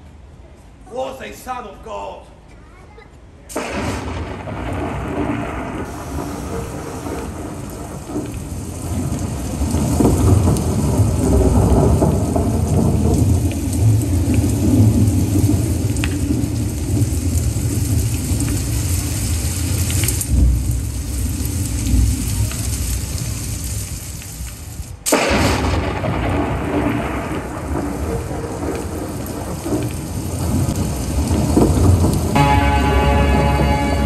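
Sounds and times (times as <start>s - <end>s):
rain-like hiss: 3.4s - 34.0s
deep rolling thunder: 3.5s - 24.5s, 25.1s - 34.0s.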